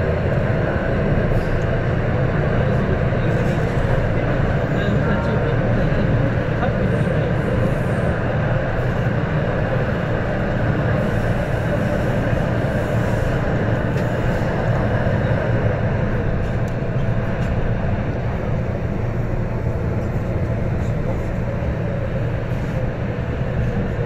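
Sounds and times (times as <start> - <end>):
train wheels and motors rumbling: 0.0 - 24.0.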